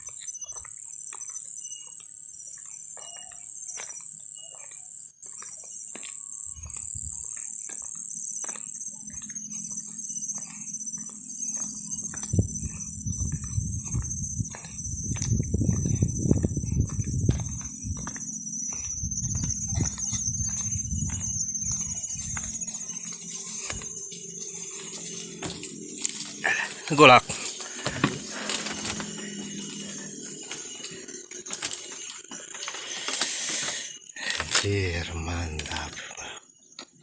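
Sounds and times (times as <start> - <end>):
bird chirps: 0.0 - 7.4, 13.7 - 36.8
insects droning: 0.0 - 37.0.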